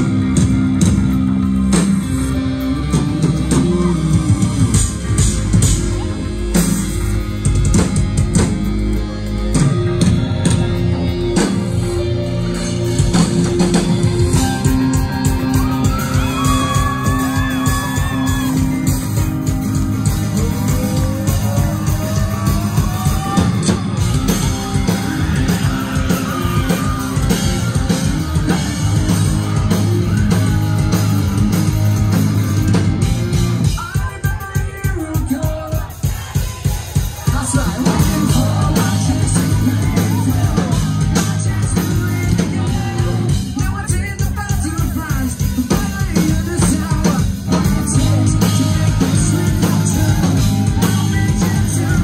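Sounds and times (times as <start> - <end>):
bass guitar: 0.0 - 52.0
distorted electric guitars: 0.0 - 52.0
steady drum beat: 0.0 - 52.0
person singing: 2.1 - 7.0, 9.5 - 32.7, 33.6 - 52.0.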